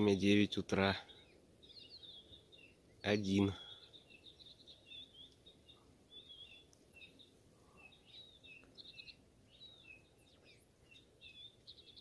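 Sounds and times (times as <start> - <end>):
songbirds chirping: 0.0 - 12.0
bird trills: 1.0 - 12.0.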